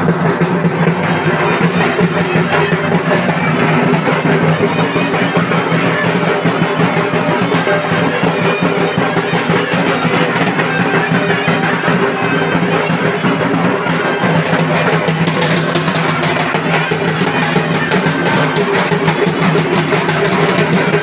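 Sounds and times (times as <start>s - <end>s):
loud music with drums and plucked strings: 0.0s - 21.0s.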